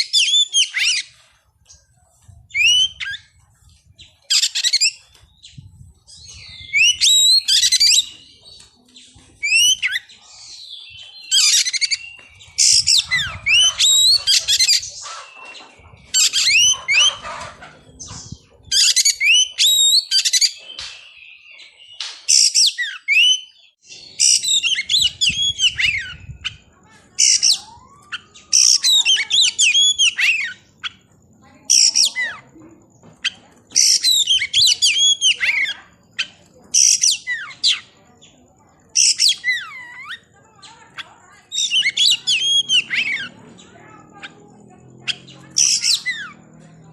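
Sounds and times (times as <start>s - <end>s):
songbird whistling song: 0.0s - 31.1s, 33.2s - 44.4s, 45.0s - 46.8s.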